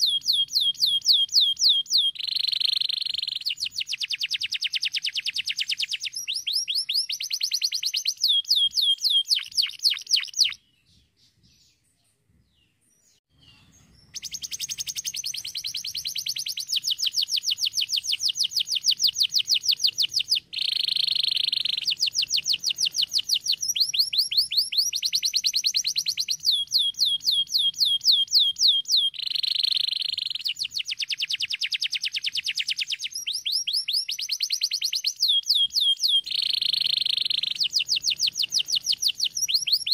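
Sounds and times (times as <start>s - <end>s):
canary singing trills: 0.0s - 11.9s, 12.5s - 39.9s.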